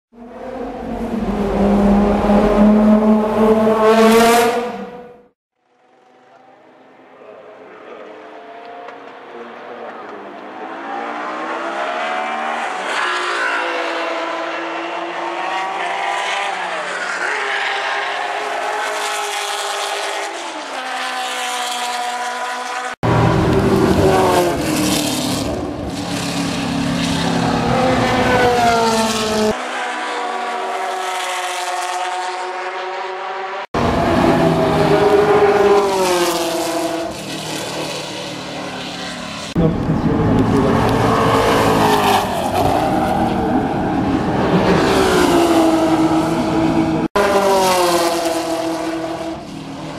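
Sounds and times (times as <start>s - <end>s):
racing car engines revving: 0.2s - 49.9s.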